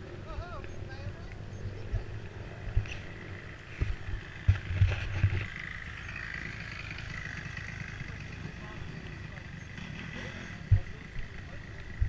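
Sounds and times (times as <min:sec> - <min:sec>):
vehicle engine whining: 0:00.0 - 0:12.0.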